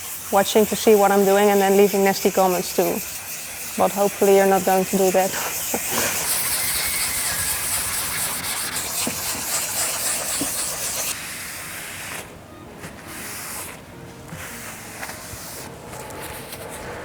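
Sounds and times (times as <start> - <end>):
sandpaper rasping on plastic: 0.0 - 12.3, 13.0 - 16.8.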